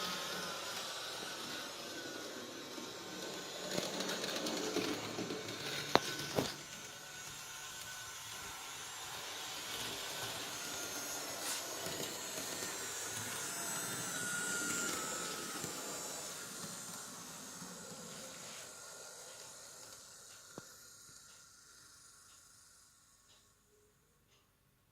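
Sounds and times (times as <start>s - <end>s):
model locomotive motor whirring: 0.0s - 24.4s.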